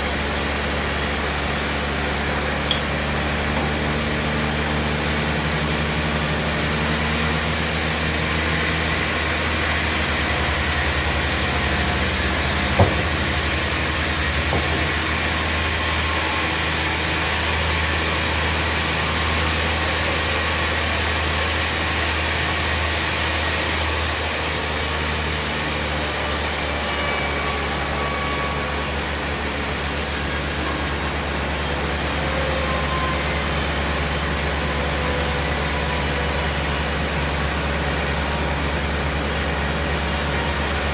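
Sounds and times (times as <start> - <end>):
band sawmill running: 0.0 - 40.9.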